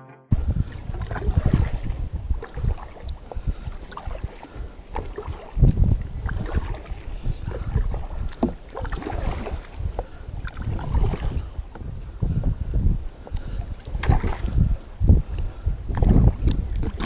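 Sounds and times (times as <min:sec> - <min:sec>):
water splashing against hull: 0:00.3 - 0:17.0
wind rumble on microphone: 0:00.3 - 0:17.0.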